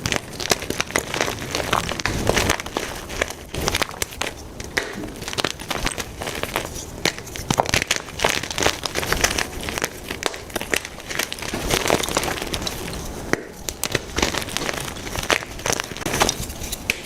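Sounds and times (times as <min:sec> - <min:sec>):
chalk crunching: 0:00.0 - 0:17.0.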